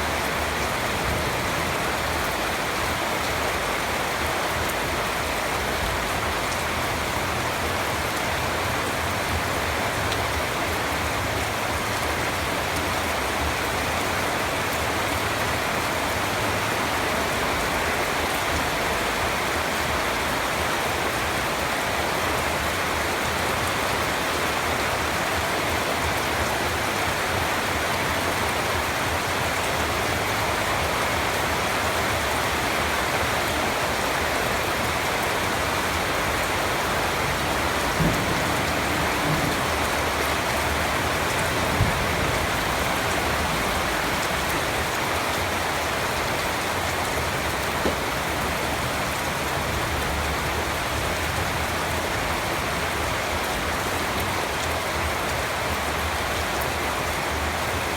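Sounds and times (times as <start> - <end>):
rain pattering on a surface: 0.0 - 57.9.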